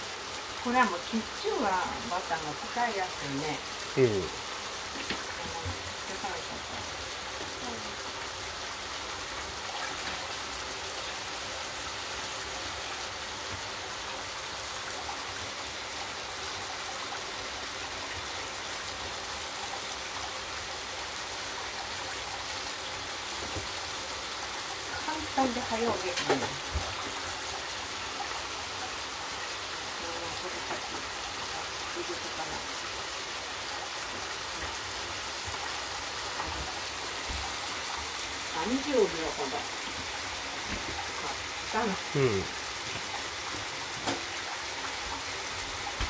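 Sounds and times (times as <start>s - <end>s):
food sizzling in a pan: 0.0s - 46.0s.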